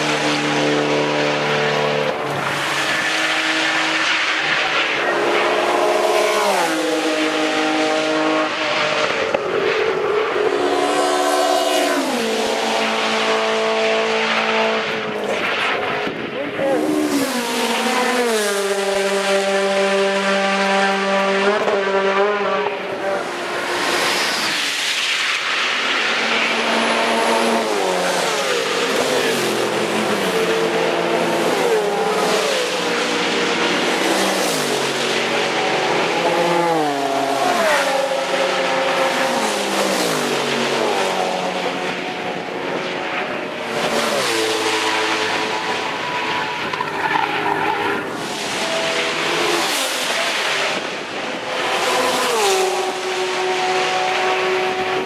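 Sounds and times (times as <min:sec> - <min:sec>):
race cars passing: 0:00.0 - 0:55.0.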